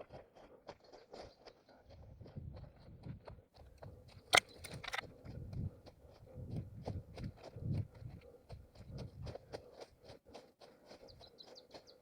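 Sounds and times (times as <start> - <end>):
running footsteps on forest ground: 0.0 - 12.0.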